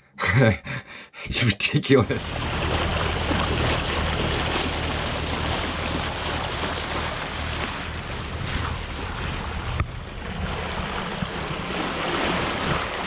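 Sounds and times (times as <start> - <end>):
boat engine hum: 1.8 - 13.0
water noise: 1.9 - 13.0
wind on microphone: 2.3 - 13.0.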